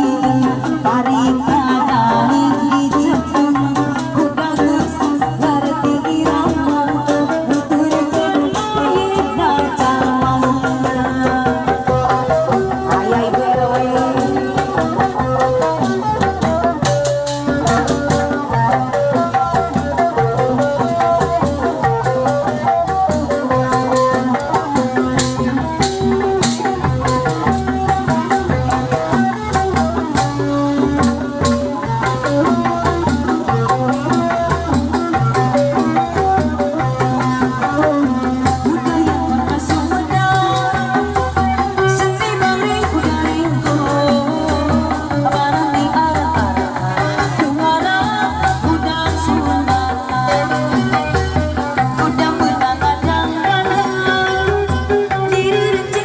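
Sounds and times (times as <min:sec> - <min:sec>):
hand-drum strokes: 0:00.0 - 0:56.0.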